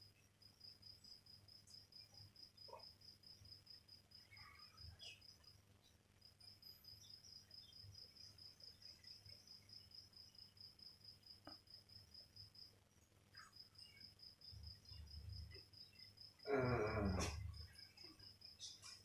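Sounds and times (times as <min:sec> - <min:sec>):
faint cricket chirping: 0:00.0 - 0:19.0.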